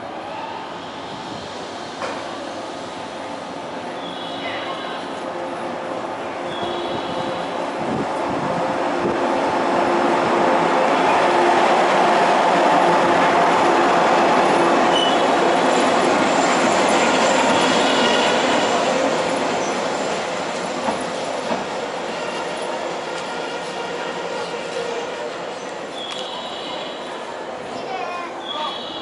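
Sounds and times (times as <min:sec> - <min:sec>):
train wheels on rails: 0:00.5 - 0:29.0.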